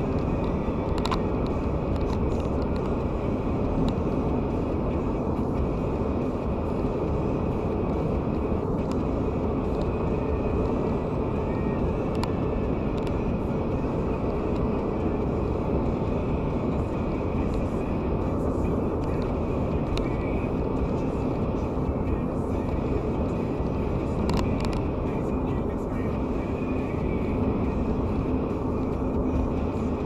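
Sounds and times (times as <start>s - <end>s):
car road noise at highway speed: 0.0s - 30.0s.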